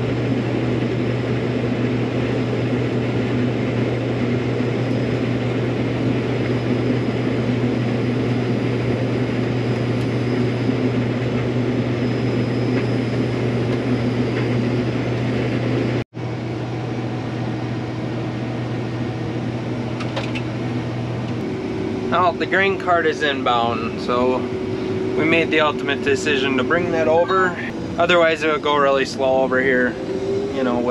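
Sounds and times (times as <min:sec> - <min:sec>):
combine harvester droning: 0:00.0 - 0:30.9.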